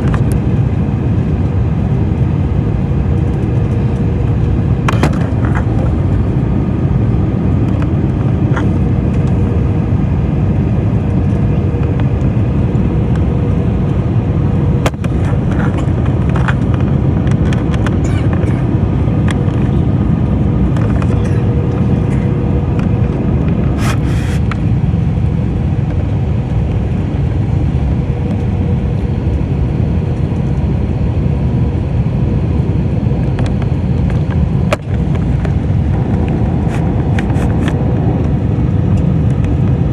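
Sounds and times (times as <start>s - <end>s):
airliner engines roaring in cabin: 0.0s - 39.9s.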